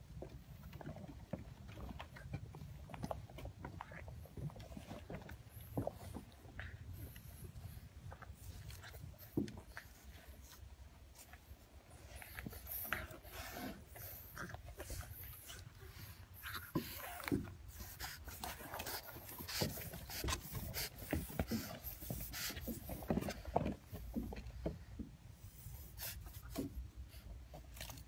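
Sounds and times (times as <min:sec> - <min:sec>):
animal breathing and scuffling: 0:00.0 - 0:28.0.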